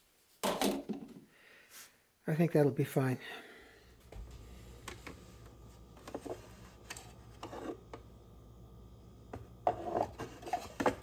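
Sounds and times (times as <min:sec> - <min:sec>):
faint steady hum: 0:01.1 - 0:11.0.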